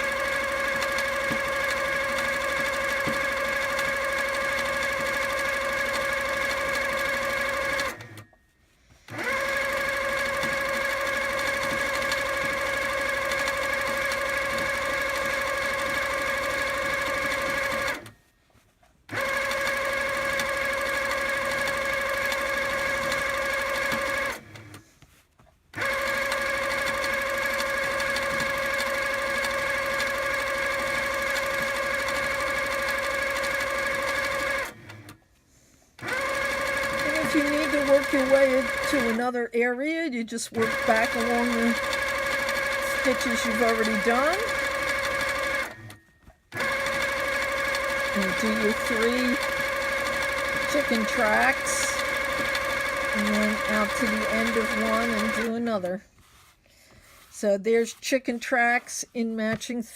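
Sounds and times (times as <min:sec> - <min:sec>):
quilting machine humming: 0:00.0 - 0:08.3, 0:09.1 - 0:18.1, 0:19.1 - 0:24.8, 0:25.8 - 0:35.2, 0:36.0 - 0:39.2, 0:40.5 - 0:56.5.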